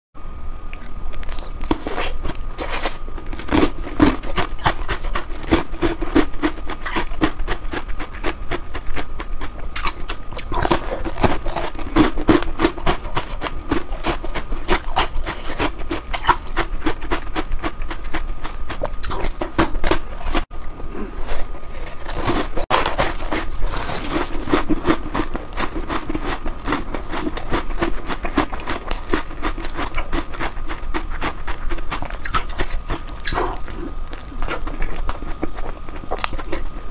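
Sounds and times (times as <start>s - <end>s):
faint steady hum: 0.2s - 36.9s
person chewing ice cream: 0.7s - 36.9s.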